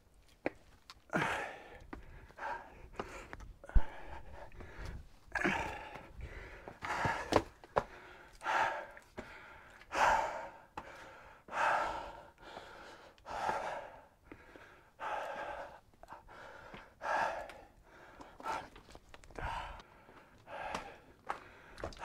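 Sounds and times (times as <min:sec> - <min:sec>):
man breathing hard: 0:01.1 - 0:22.0.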